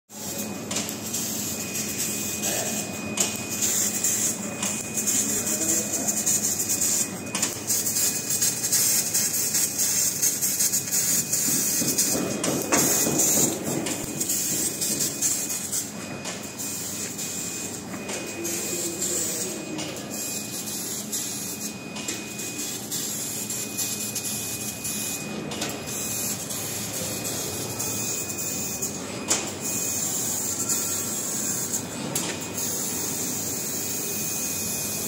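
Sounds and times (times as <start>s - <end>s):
laser cutter gas jet hiss: 0.2s - 15.9s, 16.6s - 17.8s, 18.4s - 25.2s, 25.9s - 31.8s, 32.5s - 35.0s.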